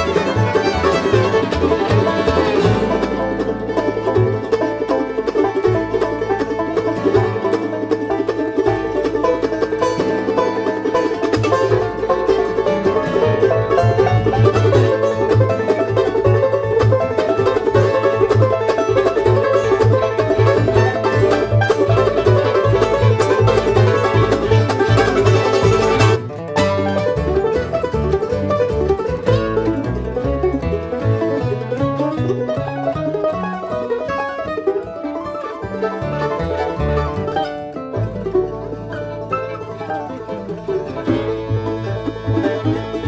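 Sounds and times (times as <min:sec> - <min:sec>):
banjo-led bluegrass music: 0:00.0 - 0:43.0.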